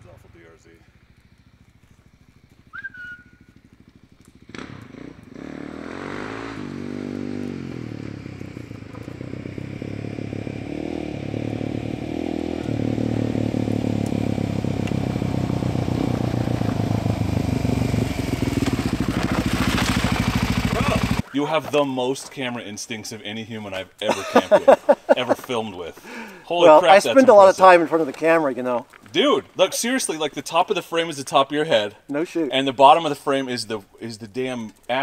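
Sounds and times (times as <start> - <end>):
motorcycle engine passing: 0.0 - 21.2, 24.1 - 31.1.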